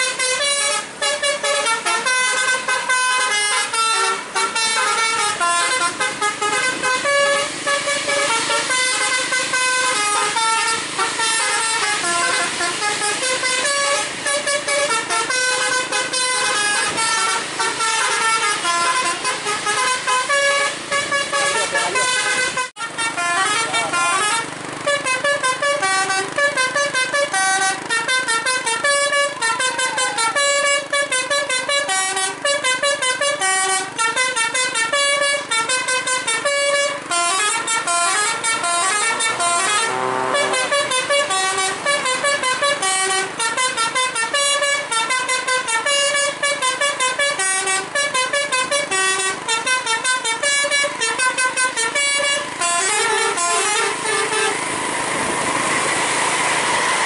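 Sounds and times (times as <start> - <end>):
bus horn playing melody: 0.0 - 57.0.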